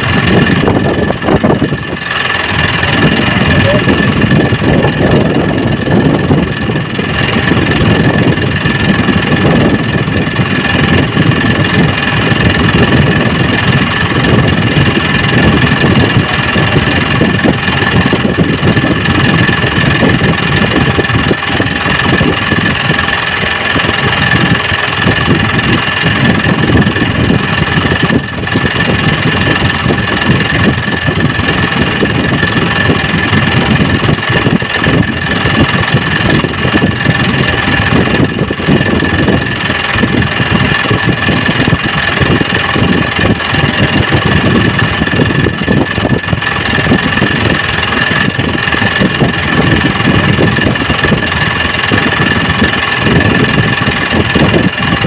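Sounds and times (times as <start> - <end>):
boat engine idling: 0.0 - 55.0.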